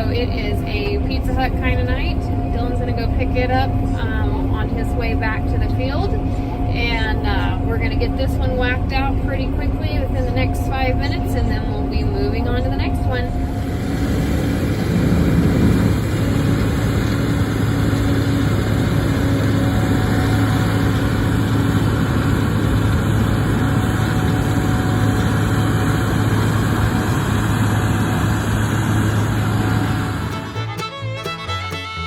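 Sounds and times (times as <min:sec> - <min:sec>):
combine harvester engine hum: 0:00.0 - 0:32.0
dense machine noise: 0:00.0 - 0:32.0.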